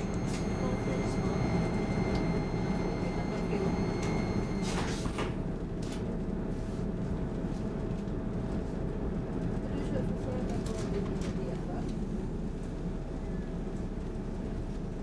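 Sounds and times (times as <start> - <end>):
train equipment low rumble: 0.0 - 15.0.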